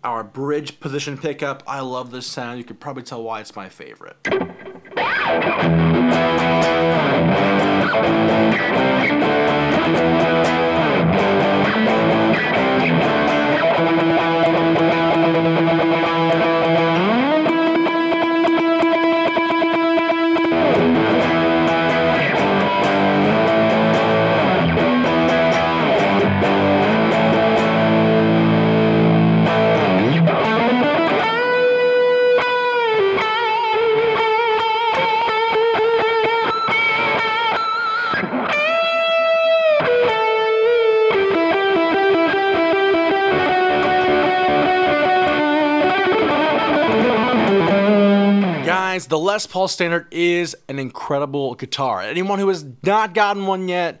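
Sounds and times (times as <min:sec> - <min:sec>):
electric guitar lead line: 0:04.2 - 0:48.8.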